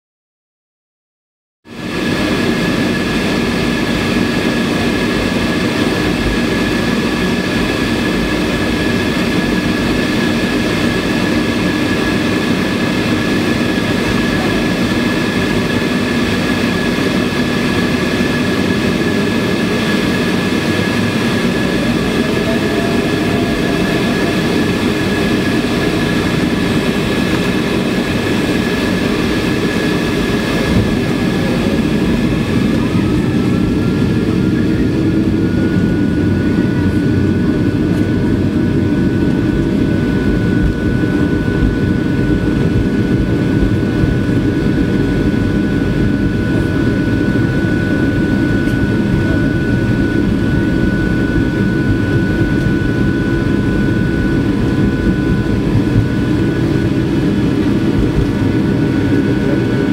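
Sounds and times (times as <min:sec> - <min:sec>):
airliner engines in cabin: 0:01.7 - 0:59.9.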